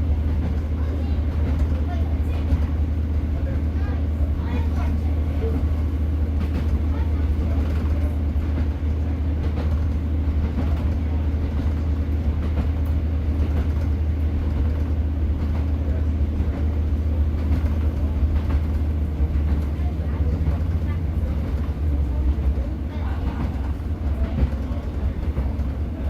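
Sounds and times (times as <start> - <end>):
wheels rumbling on rails: 0.0 - 26.0.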